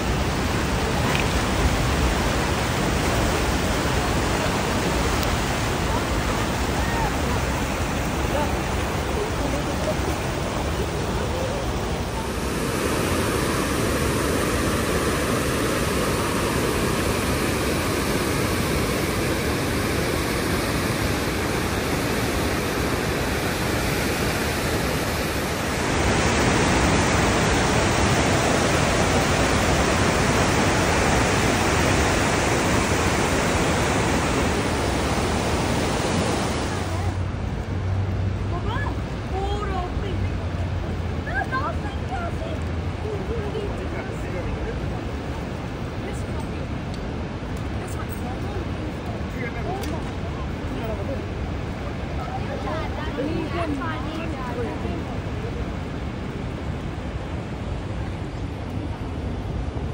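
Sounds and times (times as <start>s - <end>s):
river rushing through rapids: 0.0s - 59.9s.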